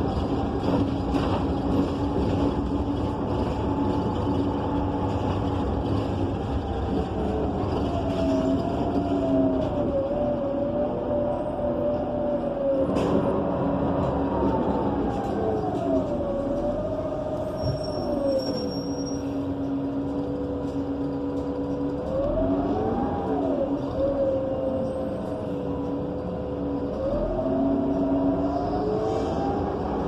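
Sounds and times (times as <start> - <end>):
bus drivetrain whine: 0.0 - 30.0.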